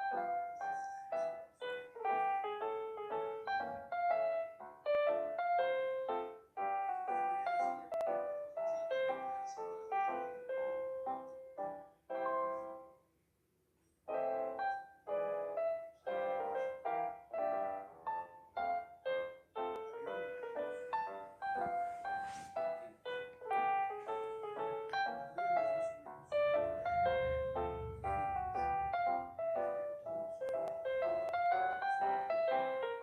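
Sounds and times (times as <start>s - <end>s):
lively piano melody: 0.0s - 13.1s, 14.0s - 33.0s.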